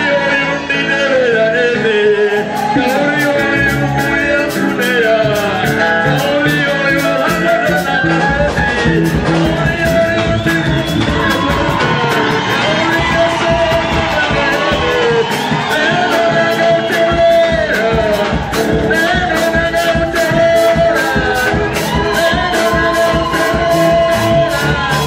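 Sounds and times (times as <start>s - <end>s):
backing music with steady beat: 0.0s - 25.0s
man singing into a microphone: 0.0s - 25.0s.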